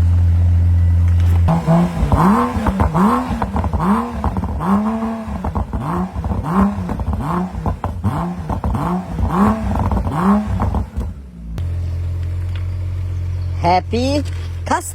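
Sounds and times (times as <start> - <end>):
car engine revving in quick blips: 1.1 - 13.3.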